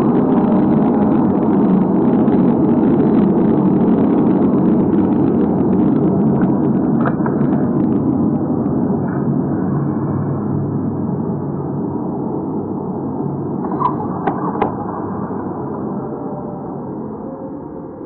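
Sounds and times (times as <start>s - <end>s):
loud low droning rumble: 0.0s - 18.0s.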